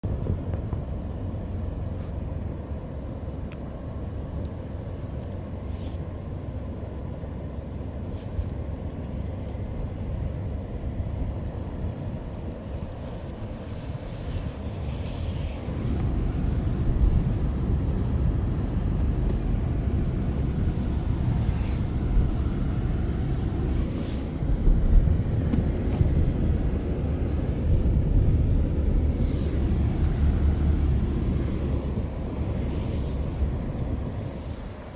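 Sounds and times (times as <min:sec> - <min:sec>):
car road and engine rumble: 0:00.0 - 0:34.9.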